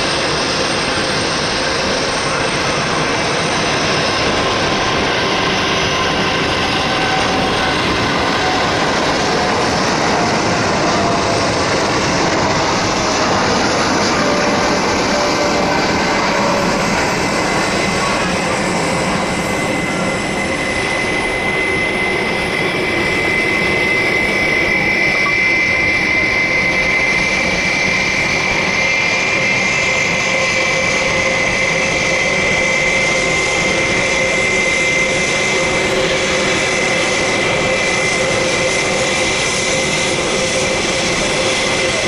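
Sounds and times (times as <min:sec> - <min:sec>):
jet engine roar with whine: 0:00.0 - 0:42.0.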